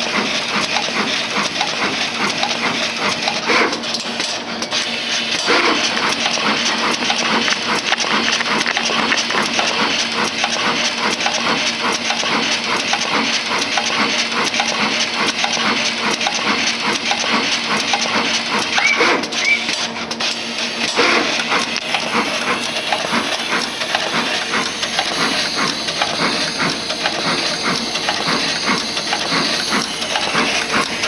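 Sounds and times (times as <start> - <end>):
rapid irregular machine clicking: 0.0 - 31.0
steady machine hum and hiss: 0.0 - 31.0.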